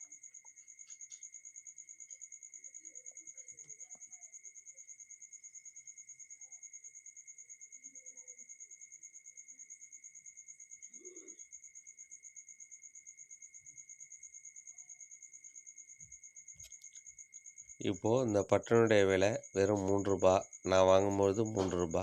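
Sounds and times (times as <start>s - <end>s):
insect trilling: 0.0s - 22.0s.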